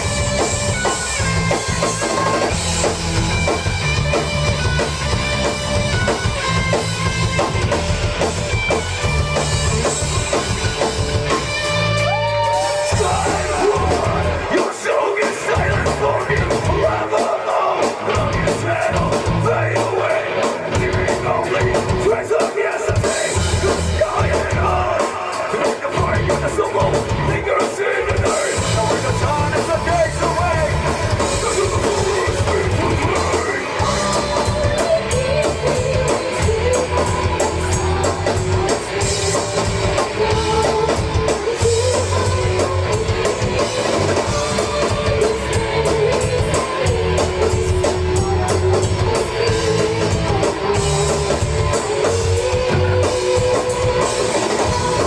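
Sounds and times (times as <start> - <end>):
drum kit: 0.0 - 55.0
person singing: 8.7 - 55.0.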